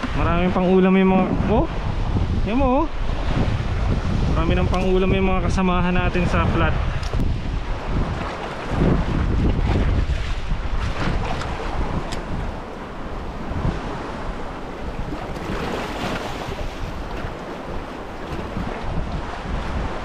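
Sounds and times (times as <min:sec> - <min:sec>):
waves on shore: 0:00.0 - 0:20.0
wind buffeting microphone: 0:00.0 - 0:20.0.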